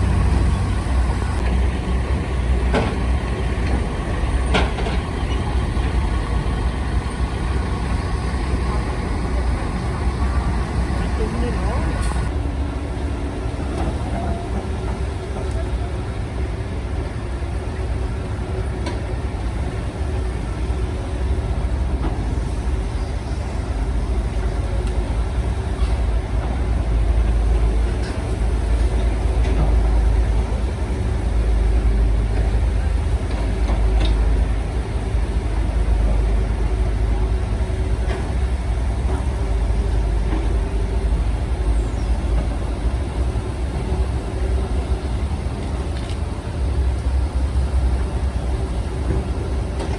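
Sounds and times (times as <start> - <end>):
constant hum: 0.0 - 49.9
diesel engines rumbling: 0.0 - 49.9.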